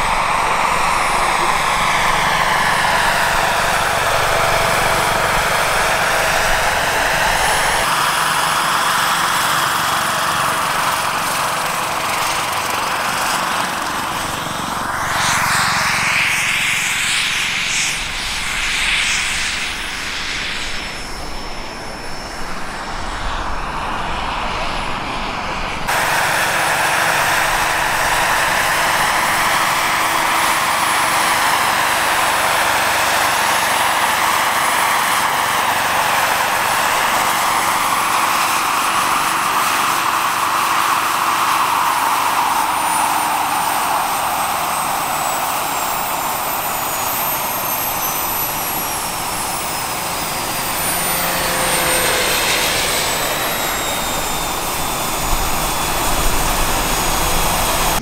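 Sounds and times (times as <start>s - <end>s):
model helicopter turbine whine: 0.0s - 58.0s.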